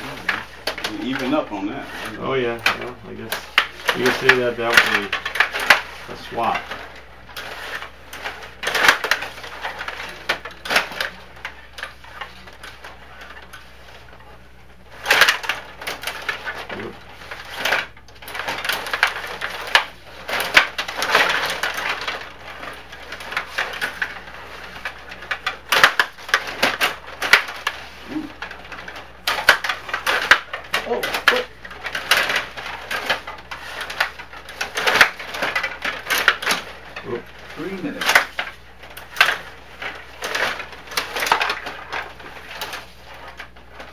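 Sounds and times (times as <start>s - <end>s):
table hockey players clattering: 0.0s - 43.9s.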